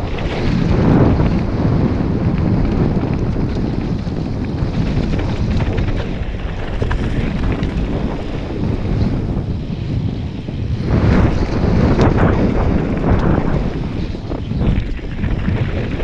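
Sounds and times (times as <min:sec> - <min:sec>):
stones and bike rattling: 0:00.0 - 0:16.0
tyres rumbling on gravel: 0:00.0 - 0:16.0
wind buffeting microphone: 0:00.0 - 0:16.0.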